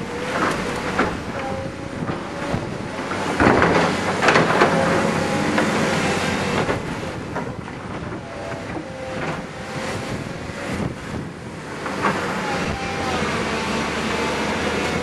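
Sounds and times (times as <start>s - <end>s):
diesel engines running under load: 0.0s - 15.0s
wind on microphone: 0.0s - 15.0s.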